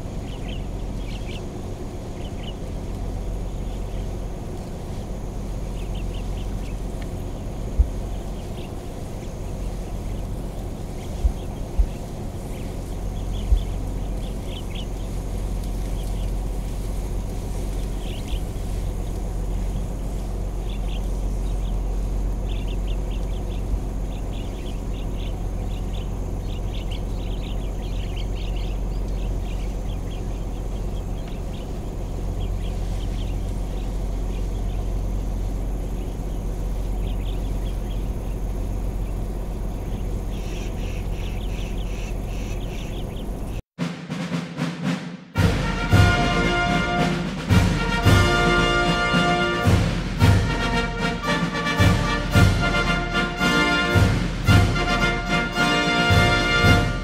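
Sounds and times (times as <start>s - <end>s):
birds chirping: 0.0s - 43.7s, 45.4s - 57.0s
vehicle engine idling: 0.0s - 43.7s, 45.4s - 57.0s.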